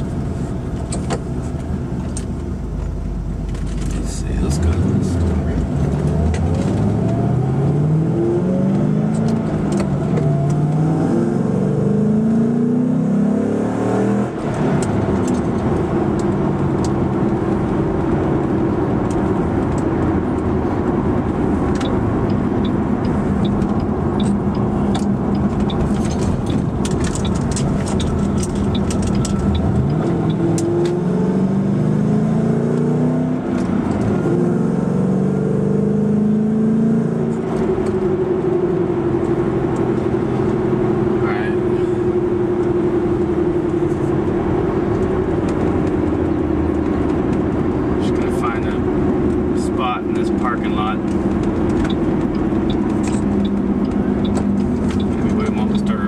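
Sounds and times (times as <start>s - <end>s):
car engine from inside cabin: 0.0s - 56.0s.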